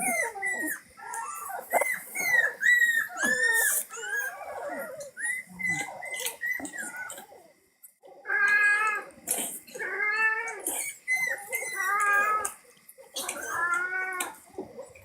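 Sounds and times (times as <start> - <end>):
pet whining cries: 0.0 - 7.4, 9.7 - 14.4.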